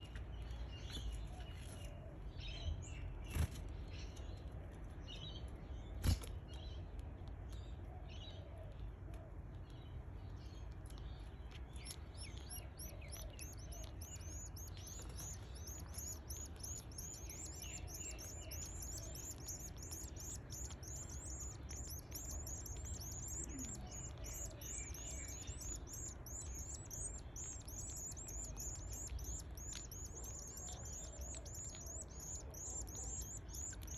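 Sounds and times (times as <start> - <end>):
bird chicks cheeping: 0.0 - 33.9.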